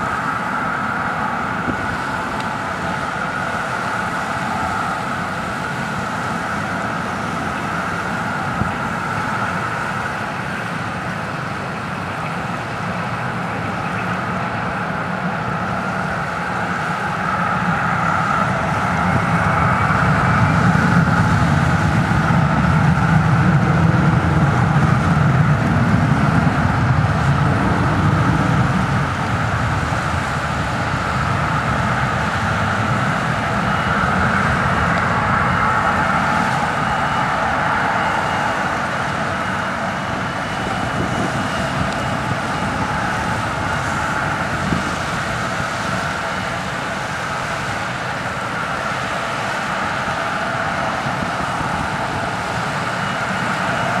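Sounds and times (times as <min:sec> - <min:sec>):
deep engine rumble: 0:00.0 - 0:54.0
jet engine whine and roar: 0:00.0 - 0:54.0.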